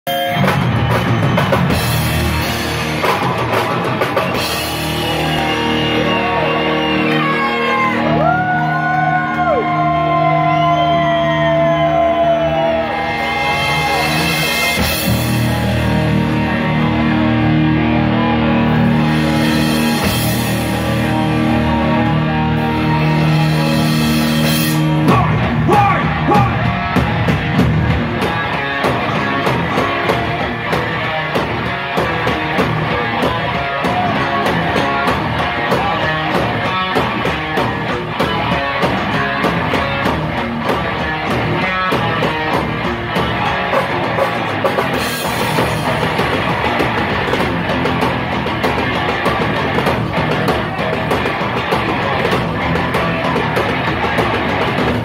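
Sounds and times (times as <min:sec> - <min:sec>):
live heavy metal band: 0:00.1 - 0:55.0.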